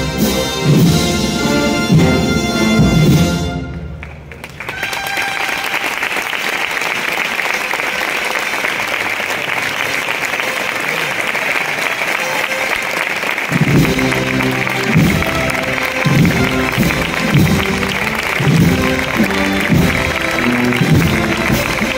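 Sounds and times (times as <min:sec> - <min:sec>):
band music: 0:00.0 - 0:05.9, 0:09.6 - 0:21.9
crowd applauding: 0:03.7 - 0:21.9.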